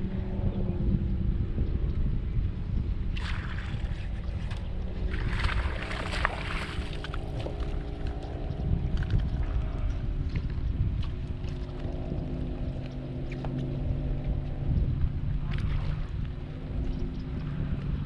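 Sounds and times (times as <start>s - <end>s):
outboard motor running: 0.0s - 18.0s
wind rumble on microphone: 0.0s - 18.0s.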